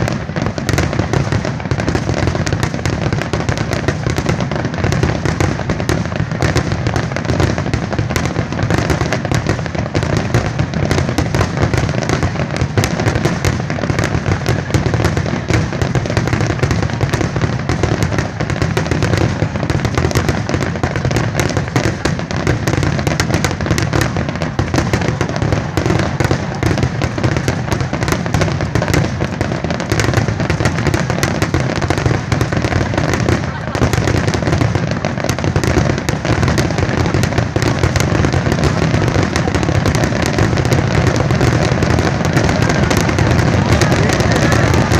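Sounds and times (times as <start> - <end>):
fireworks barrage: 0.0 - 44.9.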